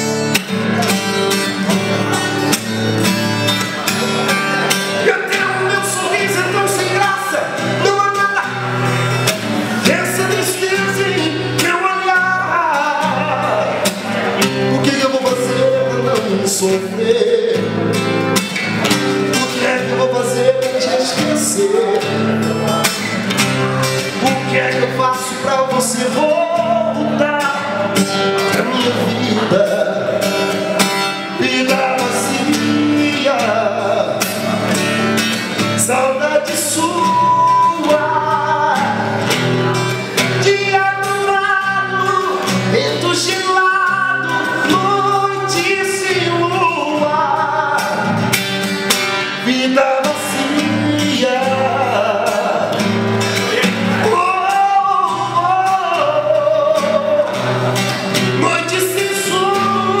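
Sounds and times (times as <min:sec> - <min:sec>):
acoustic guitar strumming: 0:00.0 - 1:00.0
man singing: 0:00.0 - 1:00.0.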